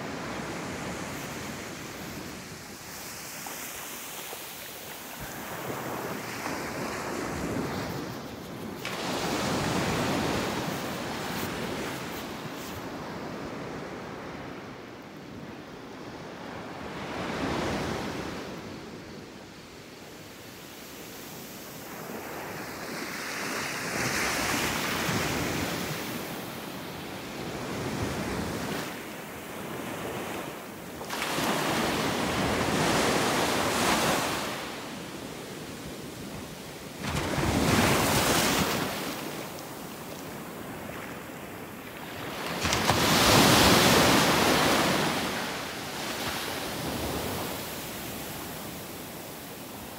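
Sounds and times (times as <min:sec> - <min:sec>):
ocean surf breaking on beach: 0:00.0 - 0:14.7, 0:16.3 - 0:49.9.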